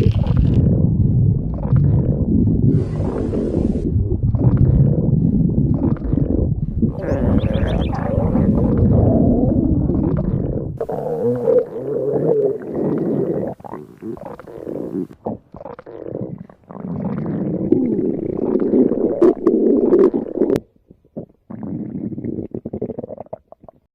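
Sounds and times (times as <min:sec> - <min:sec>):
stomach growling: 0:00.0 - 0:23.9.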